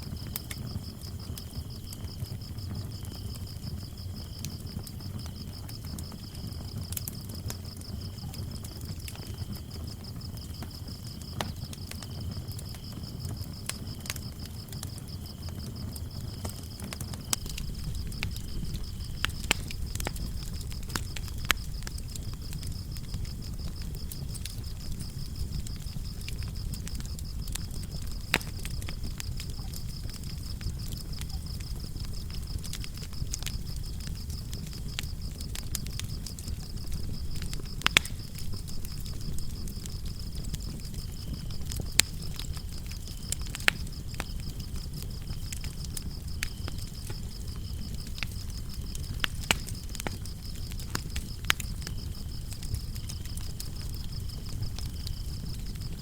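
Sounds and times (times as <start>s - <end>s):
crickets chirping: 0.0s - 56.0s
loud fire pops: 0.0s - 56.0s
low rumble of flames: 0.0s - 56.0s
wood fire crackling: 0.0s - 56.0s.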